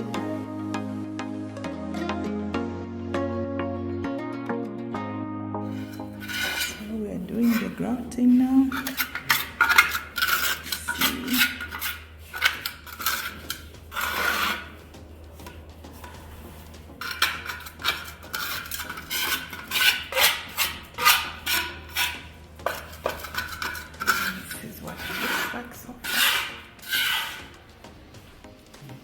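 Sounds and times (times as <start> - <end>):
grouting tool scraping tiles: 5.7 - 29.0.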